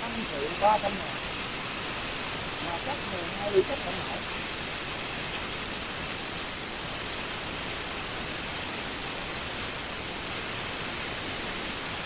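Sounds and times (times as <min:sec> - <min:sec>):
plasma cutter arc hissing: 0:00.0 - 0:12.0.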